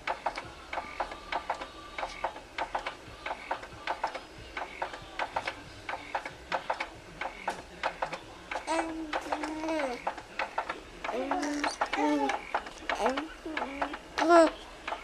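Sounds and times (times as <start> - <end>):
baby swing mechanism clicking: 0.0 - 15.0.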